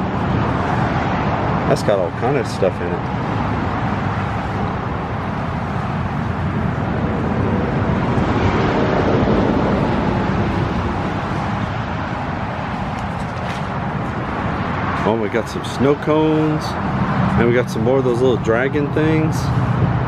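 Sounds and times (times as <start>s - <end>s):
road traffic noise: 0.0s - 20.0s
vehicle passing: 0.0s - 20.0s.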